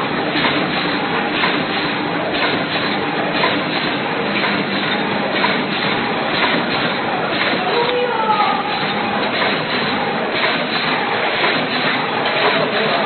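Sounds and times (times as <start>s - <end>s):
light mechanical clatter: 0.0s - 8.0s, 8.6s - 13.0s
packing machine running: 0.0s - 13.0s.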